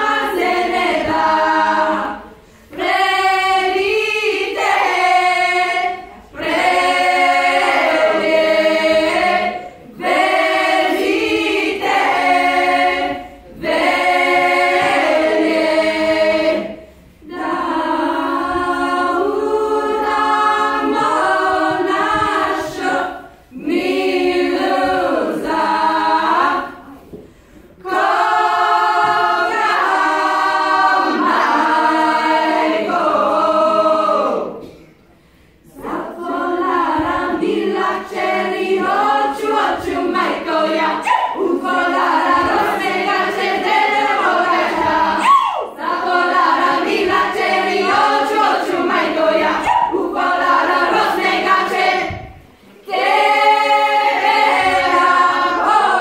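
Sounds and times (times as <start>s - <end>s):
women's choir singing a cappella: 0.0s - 56.0s.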